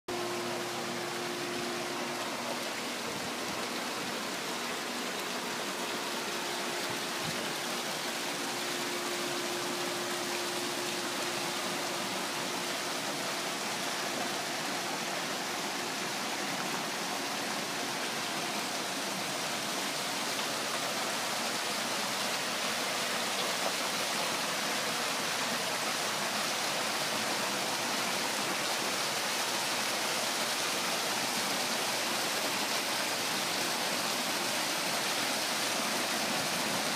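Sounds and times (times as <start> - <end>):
waterfall pouring into pool: 0.1 - 36.9.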